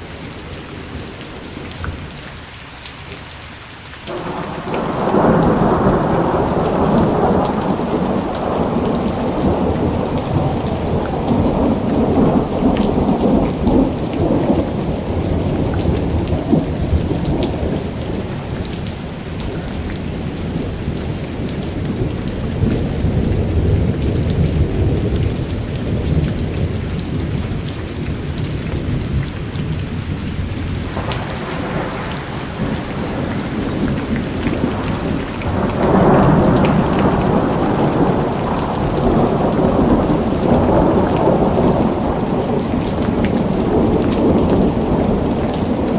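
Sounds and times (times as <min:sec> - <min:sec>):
steady rain: 0:00.0 - 0:45.9
thunder rolling: 0:04.1 - 0:45.9.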